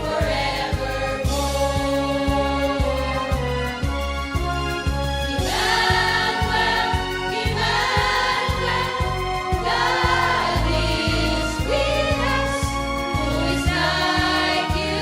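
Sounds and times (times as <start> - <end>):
choir singing a hymn: 0.0 - 3.6, 5.3 - 15.0
instrumental accompaniment with beat: 0.0 - 15.0.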